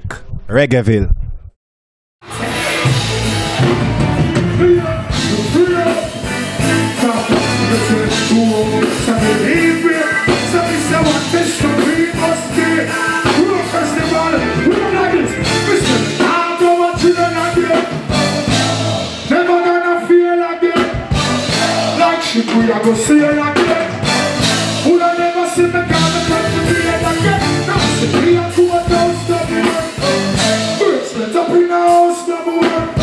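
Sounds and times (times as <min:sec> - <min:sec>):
live reggae band: 0:02.2 - 0:33.0
person singing: 0:02.3 - 0:33.0.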